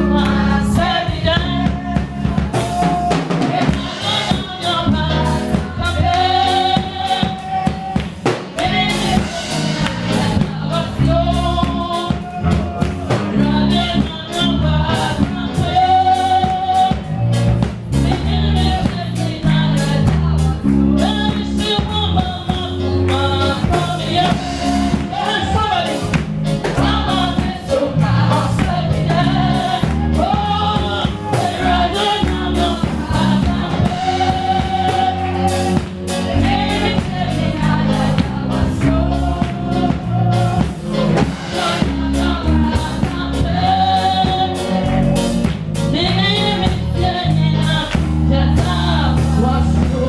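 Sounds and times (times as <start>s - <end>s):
gospel singing: 0.0s - 50.0s
instrumental backing with bass: 0.0s - 50.0s.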